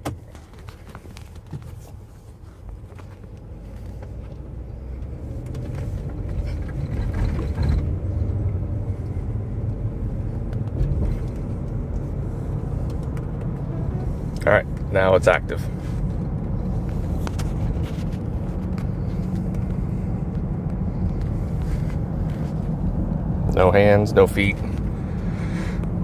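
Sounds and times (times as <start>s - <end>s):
car interior engine and road rumble: 0.0s - 26.0s.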